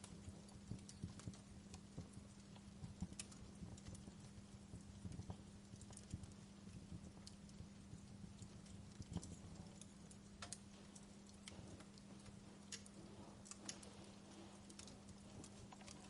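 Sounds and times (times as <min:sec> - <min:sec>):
low steady hum: 0:00.0 - 0:16.0
wood fire popping and snapping: 0:00.0 - 0:16.0.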